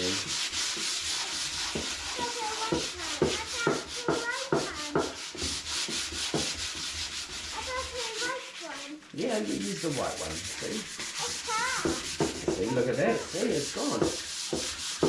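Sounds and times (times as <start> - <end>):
sandpaper scratching painted wood: 0.0 - 15.0.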